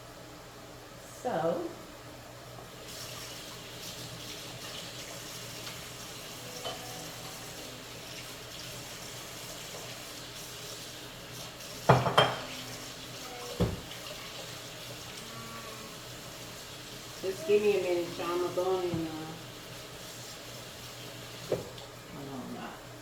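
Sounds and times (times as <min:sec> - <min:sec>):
fries sizzling in hot grease: 0:02.5 - 0:23.0.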